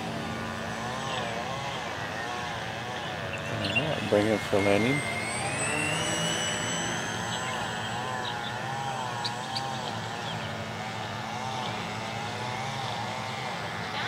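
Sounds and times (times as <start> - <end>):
electric model plane motors droning: 0.0 - 14.0.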